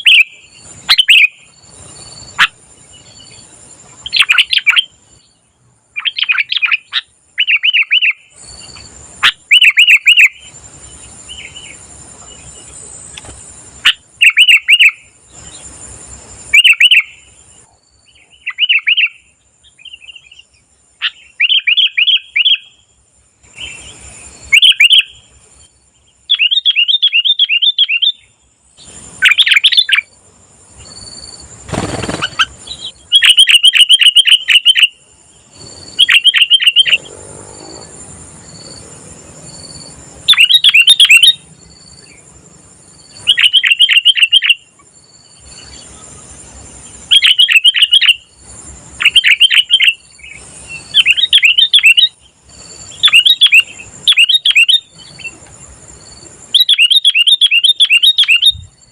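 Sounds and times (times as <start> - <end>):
bird chirping rapidly: 0.0 - 22.9, 23.5 - 37.2, 37.8 - 42.4, 43.0 - 58.9.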